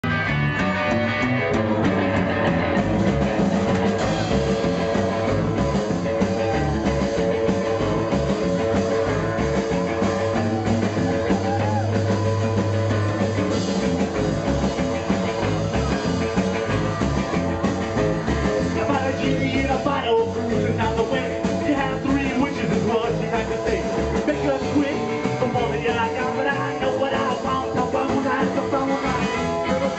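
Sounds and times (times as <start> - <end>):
guitar: 0.0 - 29.9
plucked upright double bass: 0.0 - 29.9
rock and roll band playing: 0.0 - 29.9.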